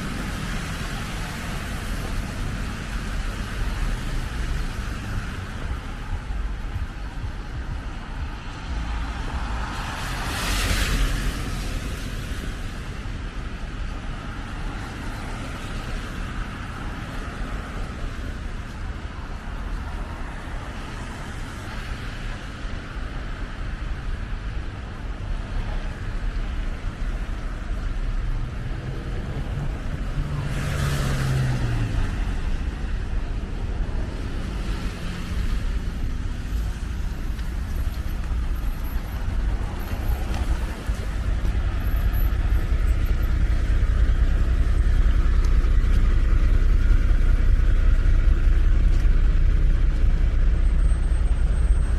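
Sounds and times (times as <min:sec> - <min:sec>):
low traffic rumble: 0:00.0 - 0:51.9
vehicles passing close: 0:00.0 - 0:51.9.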